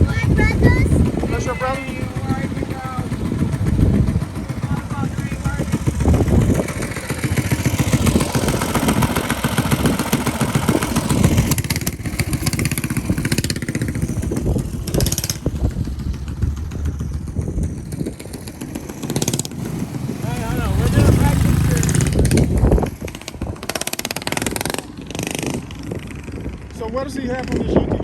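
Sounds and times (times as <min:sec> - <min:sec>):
mini bike engine running: 0:00.0 - 0:28.0
wind buffeting microphone: 0:00.0 - 0:28.0.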